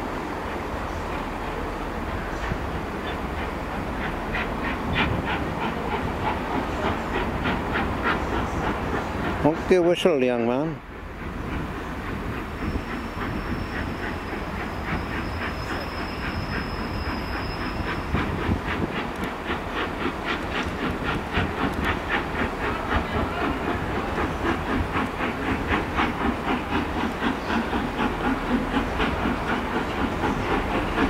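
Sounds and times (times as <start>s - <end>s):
steam locomotive chuffing: 0.0s - 31.0s
train rumbling on rails: 0.0s - 31.0s.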